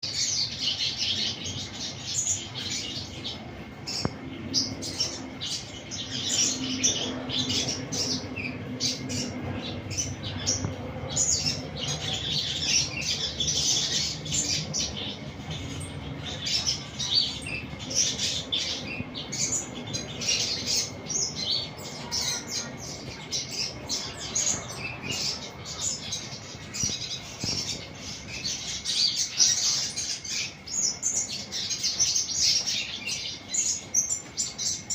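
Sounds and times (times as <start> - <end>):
bird chirping and twittering: 0.0 - 34.9
faint low hum: 0.1 - 34.9.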